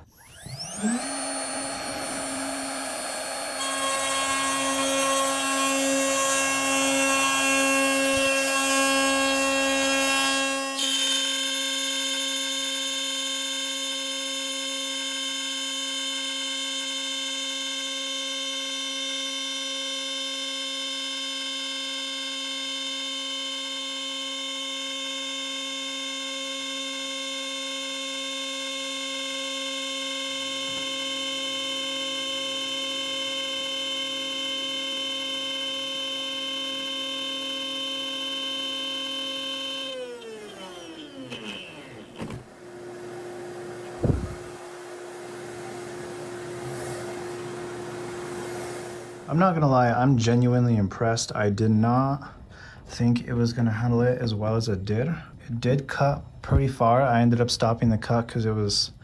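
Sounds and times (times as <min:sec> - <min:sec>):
router spindle whining: 0:00.0 - 0:49.8.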